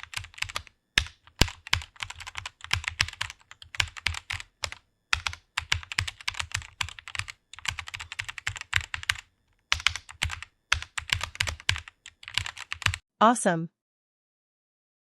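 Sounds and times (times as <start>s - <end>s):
computer keyboard typing: 0.0s - 13.0s.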